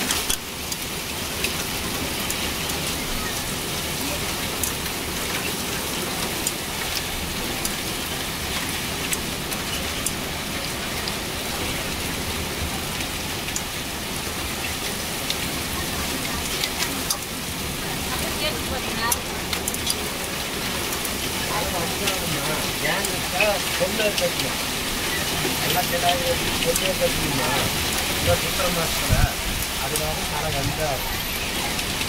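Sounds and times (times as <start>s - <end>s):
hailstones ticking on pavement: 0.0s - 32.0s
heavy rain hissing: 0.0s - 32.0s.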